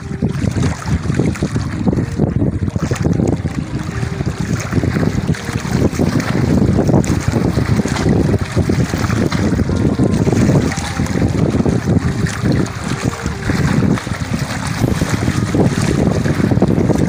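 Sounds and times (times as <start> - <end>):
waves washing against rocks: 0.0 - 17.0
wind buffeting microphone: 0.0 - 17.0.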